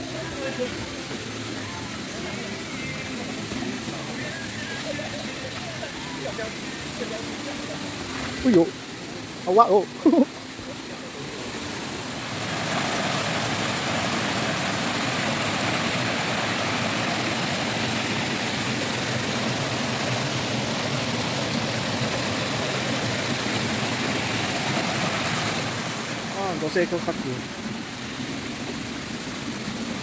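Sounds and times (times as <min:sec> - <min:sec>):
waterfall rushing over boulders: 0:00.0 - 0:30.0.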